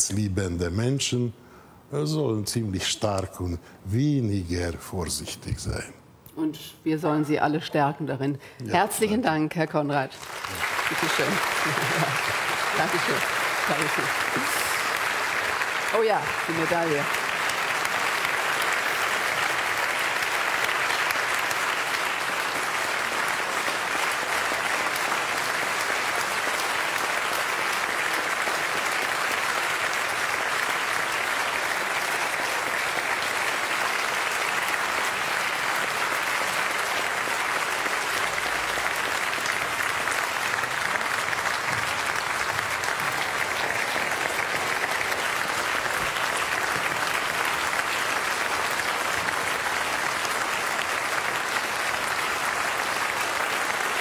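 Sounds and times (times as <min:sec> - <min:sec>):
audience applauding: 0:10.1 - 0:54.0.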